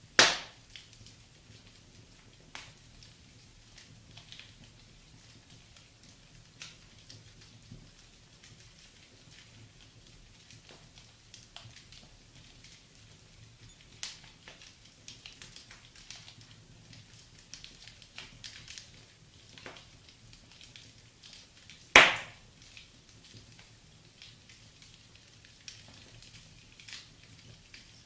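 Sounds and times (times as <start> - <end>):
fire crackling: 0.0 - 28.0
sharp pops from fire: 0.1 - 28.0.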